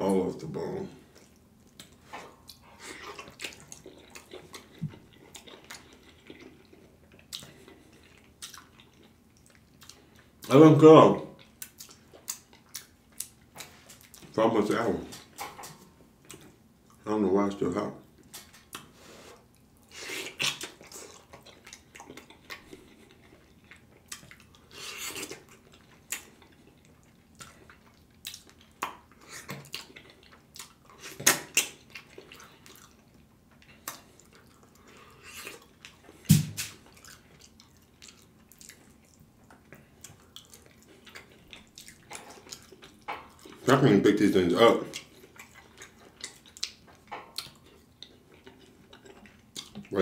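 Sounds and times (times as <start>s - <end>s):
wet chewing and lip-smacking: 1.0s - 10.5s, 11.4s - 14.3s, 15.1s - 17.0s, 18.0s - 43.7s, 44.8s - 50.0s.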